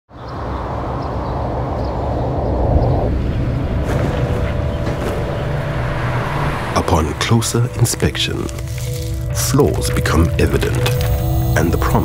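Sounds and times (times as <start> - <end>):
distant city traffic rumble: 0.1 - 11.4.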